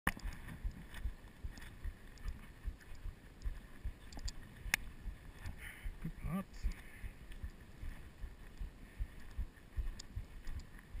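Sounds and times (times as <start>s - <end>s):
wind noise on microphone: 0.1s - 11.0s.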